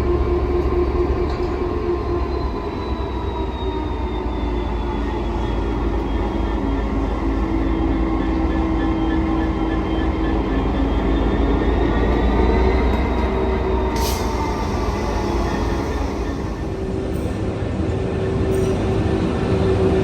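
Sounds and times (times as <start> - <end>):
train running past: 0.0 - 20.0.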